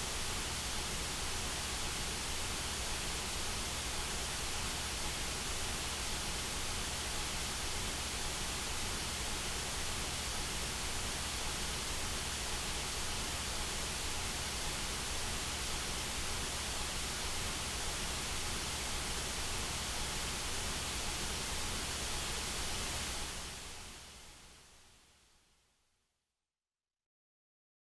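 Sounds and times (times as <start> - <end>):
white noise hiss: 0.0 - 25.8.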